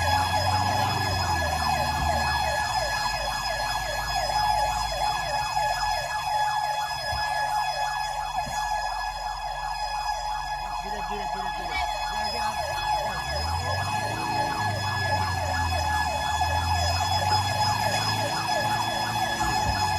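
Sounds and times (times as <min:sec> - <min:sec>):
siren yelping: 0:00.0 - 0:19.9.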